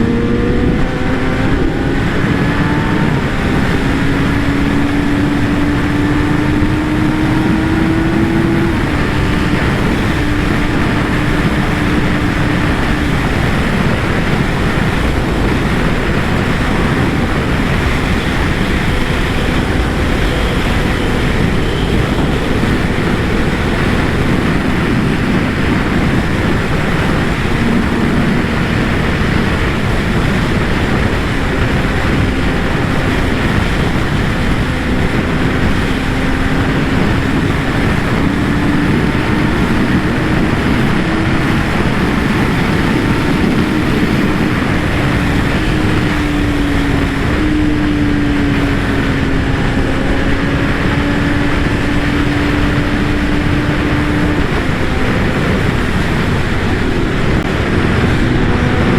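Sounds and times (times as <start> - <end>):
motorcycle engine running: 0.0 - 58.9
wind rushing on microphone: 0.0 - 58.9.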